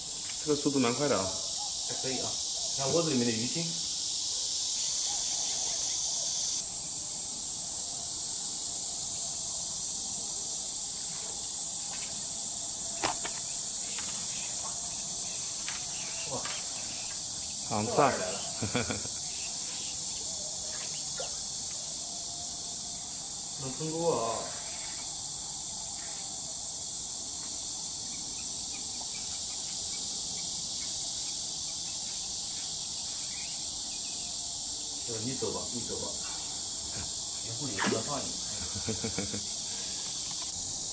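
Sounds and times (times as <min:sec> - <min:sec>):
insects chirping chorus: 0:00.0 - 0:40.9.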